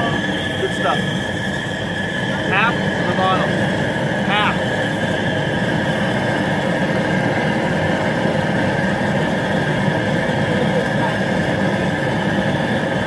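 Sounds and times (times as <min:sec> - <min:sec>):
propane burner rushing: 0:00.0 - 0:13.0.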